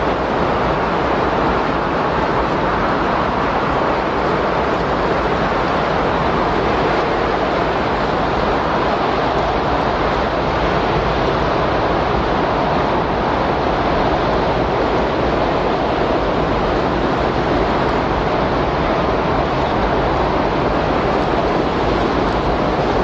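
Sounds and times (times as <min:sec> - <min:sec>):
rushing wind: 0:00.0 - 0:23.0.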